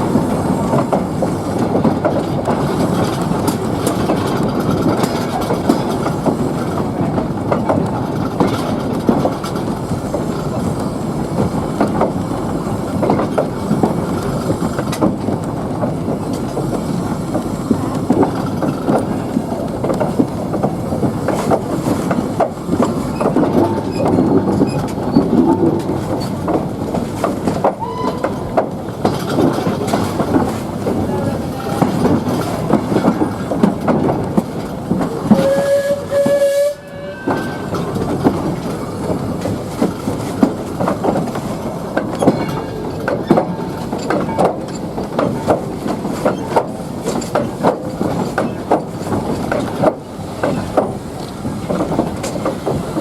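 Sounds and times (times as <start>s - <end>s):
train rumbling along track: 0.0s - 53.0s
wheels clicking on rails: 0.0s - 53.0s.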